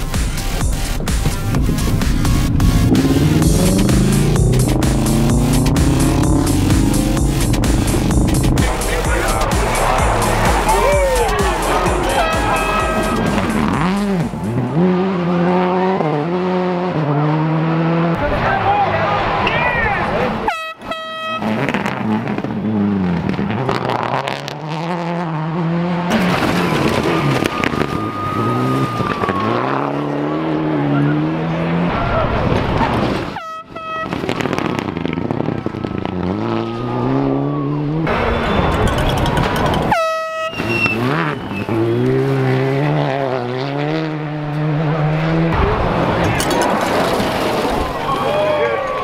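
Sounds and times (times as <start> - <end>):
rally car engine revving: 0.0 - 20.5, 21.2 - 39.9, 40.5 - 49.0.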